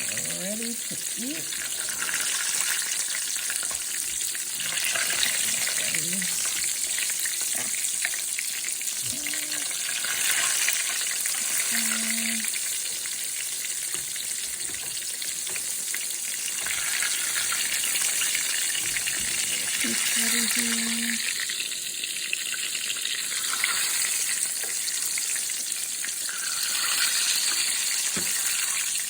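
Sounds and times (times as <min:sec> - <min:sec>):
tomato slices frying in oil: 0:00.0 - 0:29.0.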